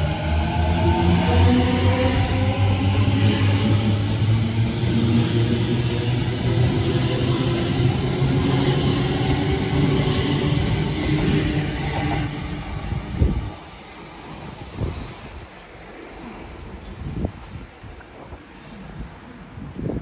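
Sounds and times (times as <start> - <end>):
train motor hum: 0.0 - 18.1
wheel and rail rumble: 0.0 - 19.2.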